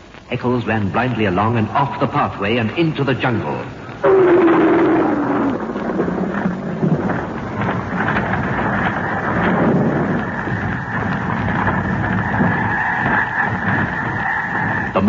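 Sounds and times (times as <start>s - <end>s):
loud continuous rumbling din: 1.0s - 15.0s.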